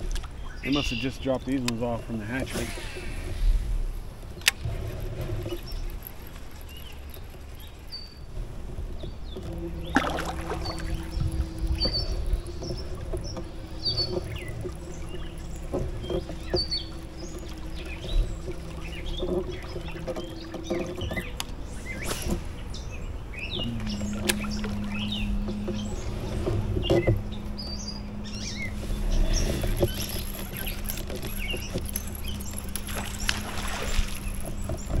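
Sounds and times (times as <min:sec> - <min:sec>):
electric outboard motor hum: 0:00.0 - 0:35.0
small birds chirping: 0:00.3 - 0:03.0, 0:05.4 - 0:08.3, 0:09.0 - 0:35.0.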